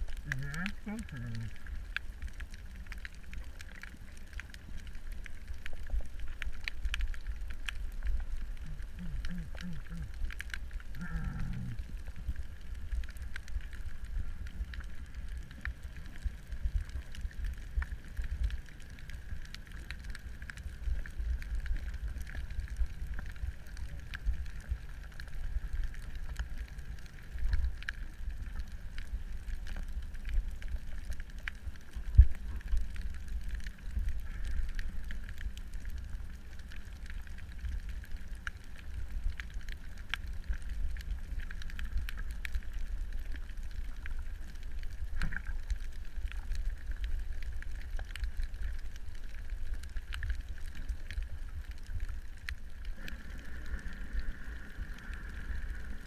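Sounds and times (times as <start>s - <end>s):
crackling clicks: 0.0s - 56.0s
underwater low rumble: 0.0s - 56.0s.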